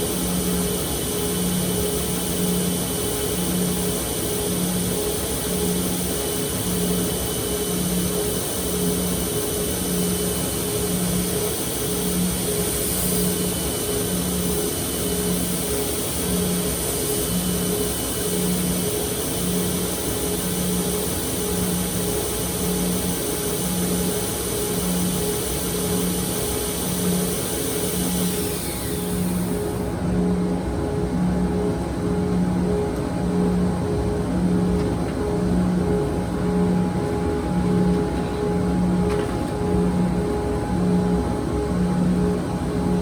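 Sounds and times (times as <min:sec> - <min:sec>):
grinding machine humming: 0:00.0 - 0:43.0.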